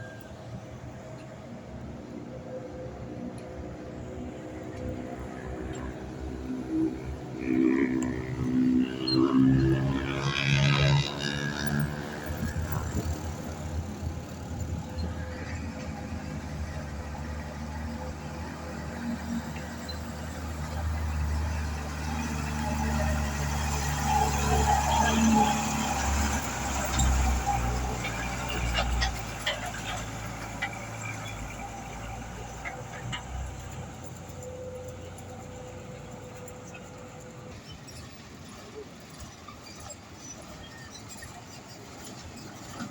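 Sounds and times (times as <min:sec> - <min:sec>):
diesel lorry engine droning: 0:00.0 - 0:42.9.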